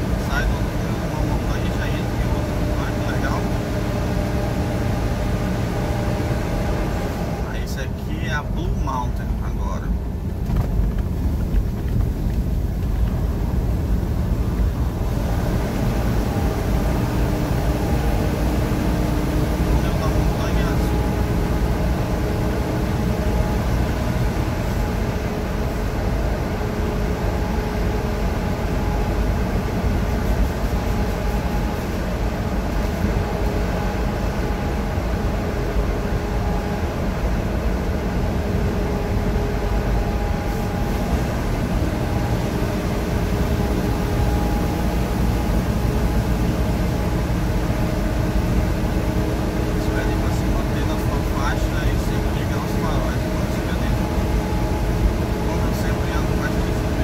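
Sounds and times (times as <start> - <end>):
road rumble: 0.0 - 57.0
truck engine drone: 0.0 - 57.0.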